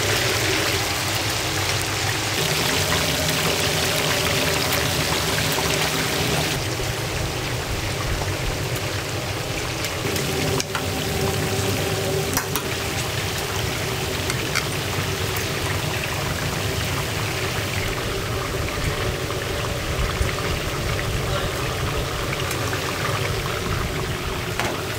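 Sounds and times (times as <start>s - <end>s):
meat sizzling on a grill: 0.0s - 24.9s.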